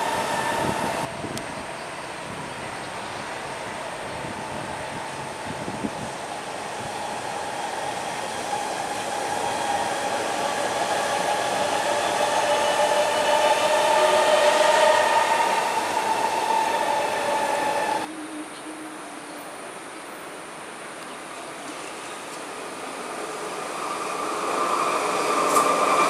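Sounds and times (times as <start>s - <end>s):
metro train running past: 0.0s - 26.0s.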